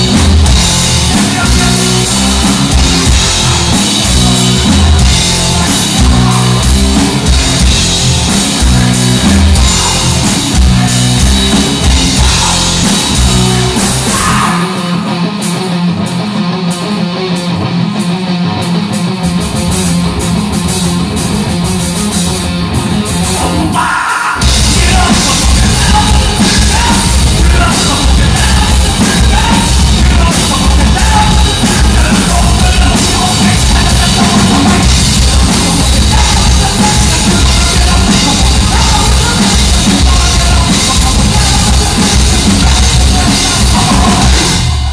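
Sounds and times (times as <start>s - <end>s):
hard rock band playing live: 0.0s - 44.9s.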